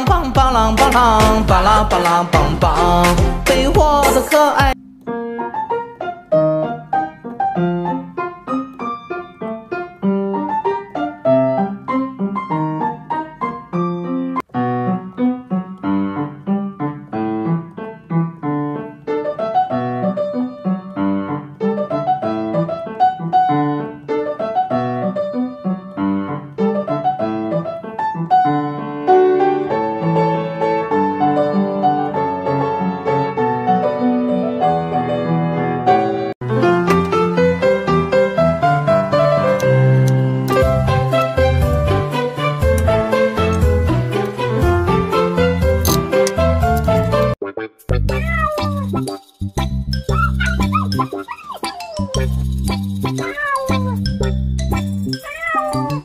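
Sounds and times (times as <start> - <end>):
piano music with quick notes: 0.0 - 56.0.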